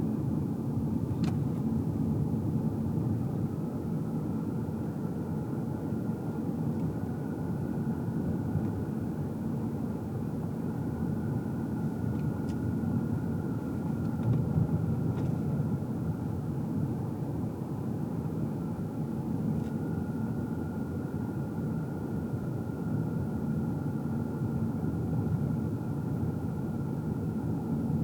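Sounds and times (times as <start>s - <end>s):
car road and engine rumble: 0.0s - 28.0s
faint steady whine: 0.0s - 28.0s.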